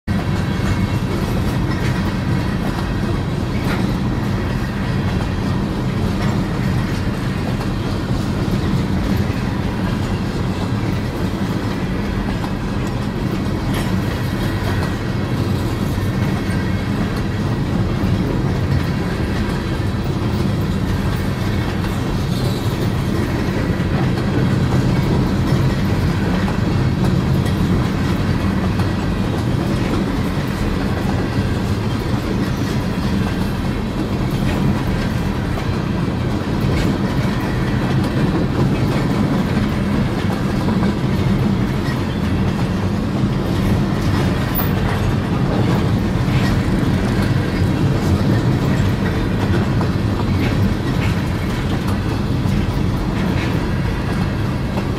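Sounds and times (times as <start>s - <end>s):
steel wheels rumbling on rail: 0.0s - 54.9s.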